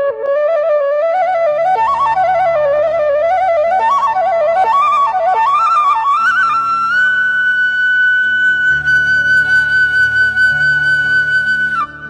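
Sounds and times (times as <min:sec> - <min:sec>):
bamboo flute melody: 0:00.0 - 0:12.0.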